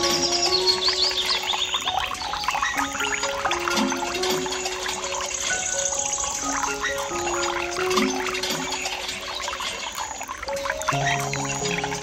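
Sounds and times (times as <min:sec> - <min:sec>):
background music with held notes: 0:00.0 - 0:12.0
water trickling down metal channel: 0:00.0 - 0:12.0.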